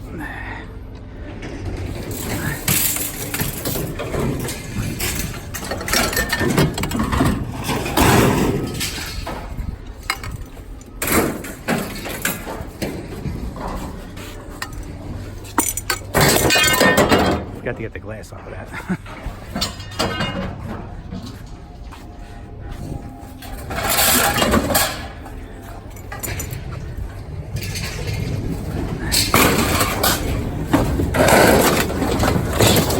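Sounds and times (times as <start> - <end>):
scrap metal clanking and rattling: 1.2 - 17.6, 18.7 - 32.9.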